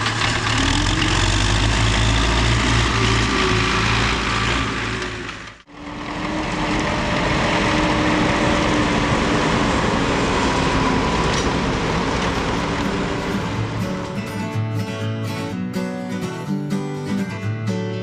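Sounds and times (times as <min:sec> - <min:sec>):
combine harvester running: 0:00.0 - 0:17.5.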